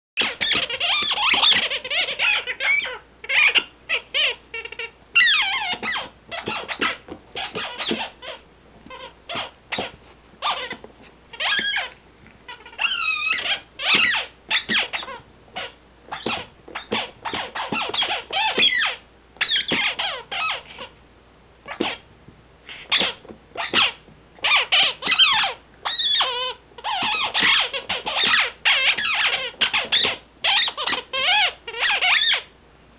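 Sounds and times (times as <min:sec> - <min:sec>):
dog toy squeaking: 0:00.2 - 0:20.9, 0:21.6 - 0:22.0, 0:22.8 - 0:32.5.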